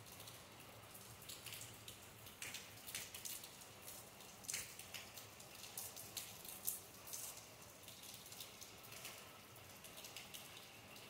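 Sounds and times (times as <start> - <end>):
light rain hiss: 0.0 - 11.0
water drops dripping: 0.0 - 11.0.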